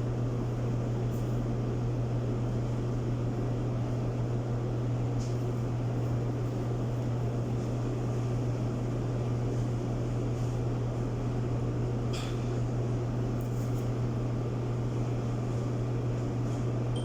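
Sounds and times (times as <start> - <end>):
clothes dryer motor hum: 0.0 - 17.0.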